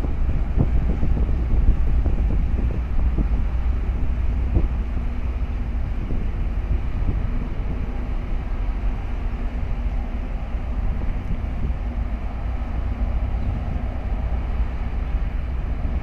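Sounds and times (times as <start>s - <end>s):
ship engines rumbling: 0.0s - 16.0s
wind buffeting microphone: 0.0s - 16.0s.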